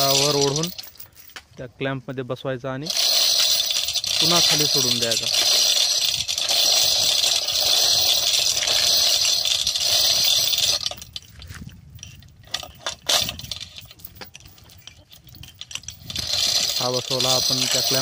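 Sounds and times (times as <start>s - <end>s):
chain clinks: 0.0s - 1.4s, 2.9s - 18.0s
hand chain rattling: 0.0s - 1.5s, 2.8s - 18.0s.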